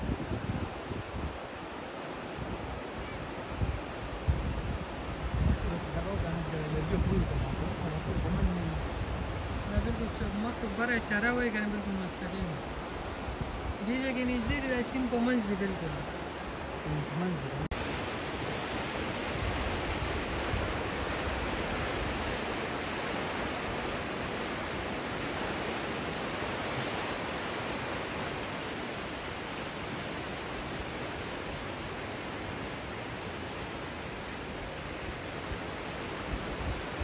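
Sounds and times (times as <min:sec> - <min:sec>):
muddy river water rushing: 0:00.0 - 0:37.0.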